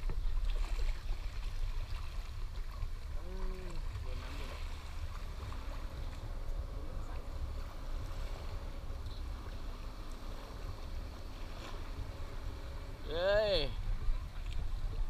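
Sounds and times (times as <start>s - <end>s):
distant motorboat engine drone: 0.0s - 15.0s
wind rumbling on microphone: 0.0s - 15.0s.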